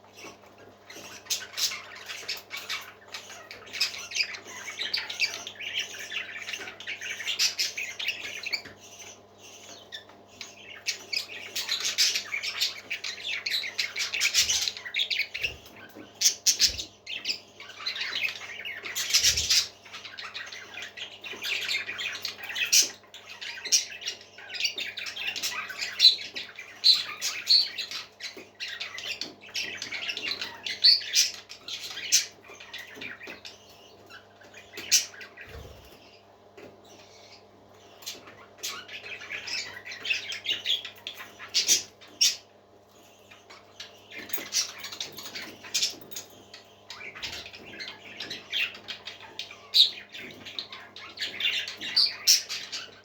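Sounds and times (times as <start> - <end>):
parrots chirping and squawking: 0.0 - 53.0.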